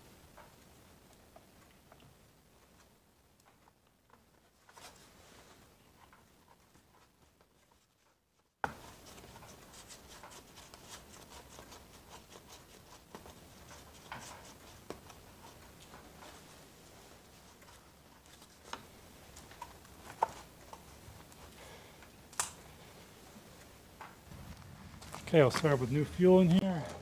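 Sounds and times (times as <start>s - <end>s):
small clicks and rubbing of parts: 0.3s - 22.7s.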